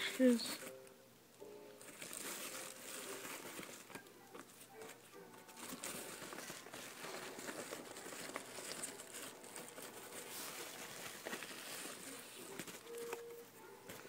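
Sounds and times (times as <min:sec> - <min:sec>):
padded mailer crinkling: 0:01.8 - 0:14.0.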